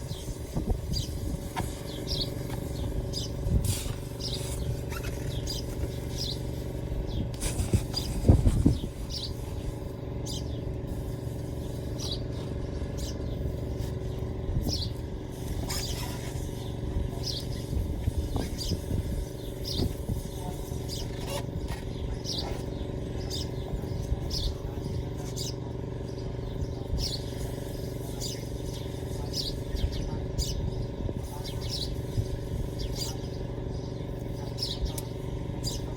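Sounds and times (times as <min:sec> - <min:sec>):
engine hum: 0:00.0 - 0:35.9.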